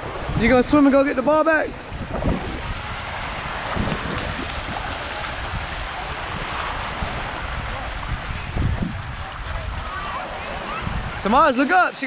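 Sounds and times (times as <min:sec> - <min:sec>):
wind buffeting microphone: 0:00.0 - 0:11.9
ocean surf washing: 0:00.0 - 0:12.0.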